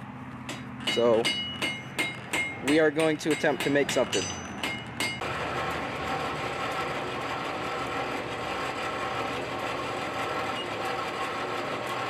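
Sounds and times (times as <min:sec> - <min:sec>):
machine whirring hum: 0:00.0 - 0:12.0.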